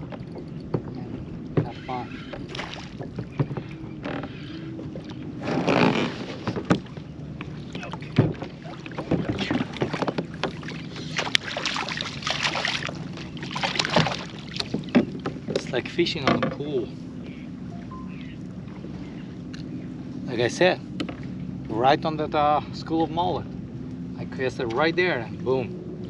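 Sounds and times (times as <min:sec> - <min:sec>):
knocks and clicks on hull: 0:00.0 - 0:19.7, 0:20.6 - 0:22.2, 0:22.9 - 0:26.0
water splashing around kayak: 0:00.0 - 0:26.0.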